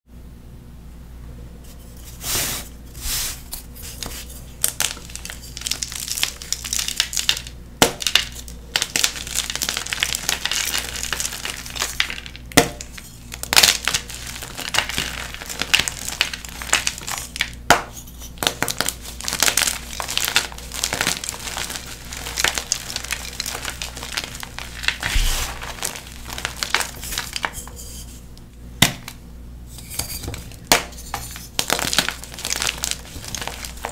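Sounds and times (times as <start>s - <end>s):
chalk blocks crushed and crunching: 3.8s - 28.0s, 29.8s - 33.9s.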